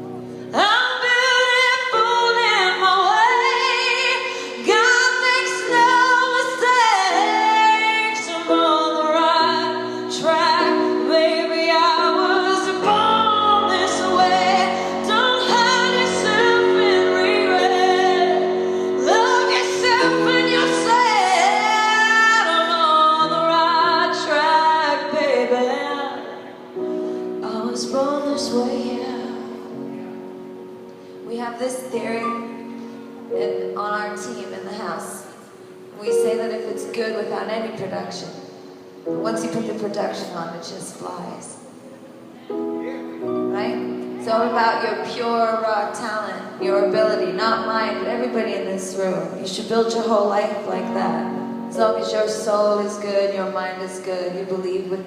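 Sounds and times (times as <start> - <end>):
piano accompaniment: 0.0 - 55.0
woman singing with vibrato: 0.5 - 29.7, 31.2 - 38.4, 43.4 - 55.0.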